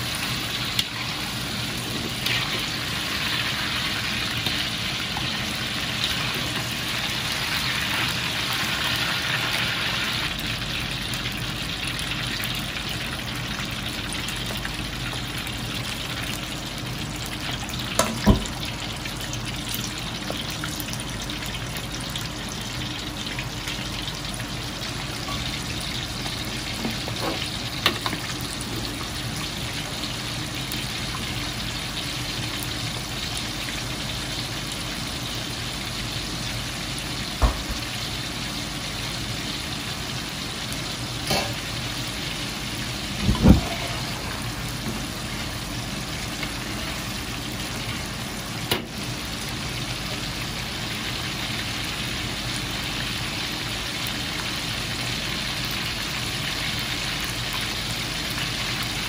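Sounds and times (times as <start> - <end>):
oil bubbling and sizzling: 0.0 - 59.0.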